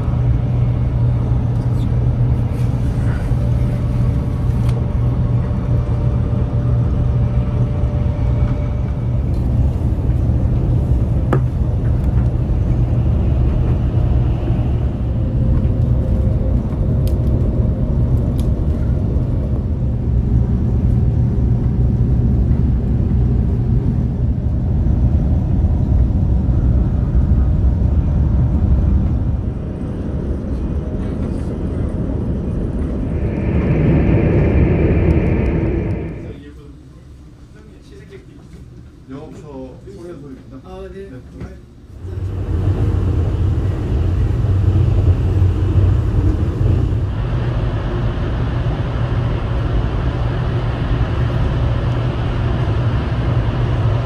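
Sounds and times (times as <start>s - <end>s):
train rumble inside cabin: 0.0s - 39.7s, 40.3s - 54.0s.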